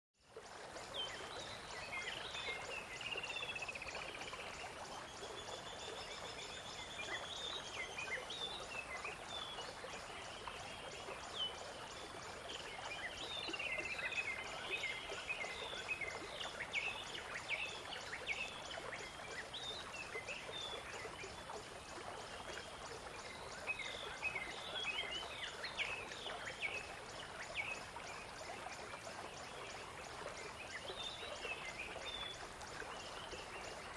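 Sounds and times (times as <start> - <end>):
river water running: 0.2 - 33.9.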